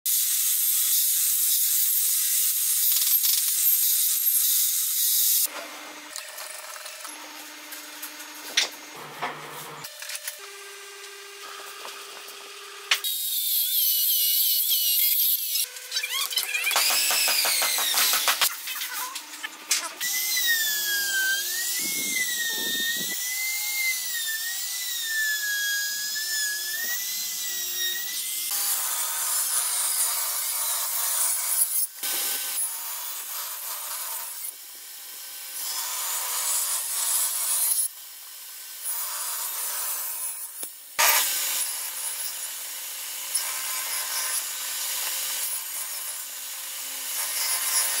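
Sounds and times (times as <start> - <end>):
table saw cutting wood: 0.1 - 48.0.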